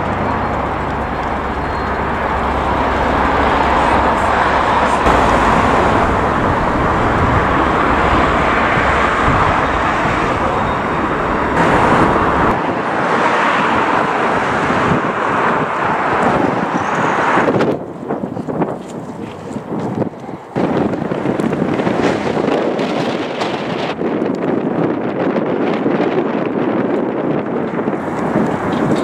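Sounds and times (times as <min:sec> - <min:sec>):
low vehicle rumble: 0:00.0 - 0:29.0
vehicle rushing noise: 0:00.0 - 0:29.0.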